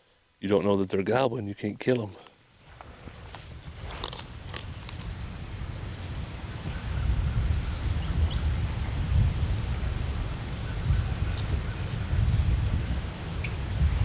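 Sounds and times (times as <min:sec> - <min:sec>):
songbirds chirping: 0:00.2 - 0:13.6
wind rumbling on microphone: 0:02.6 - 0:14.0.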